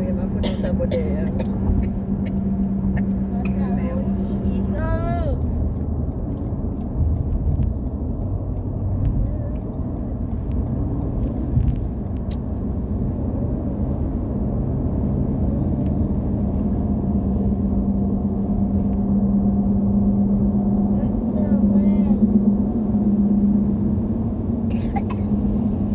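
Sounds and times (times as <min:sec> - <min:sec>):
truck engine rumble: 0:00.0 - 0:25.9.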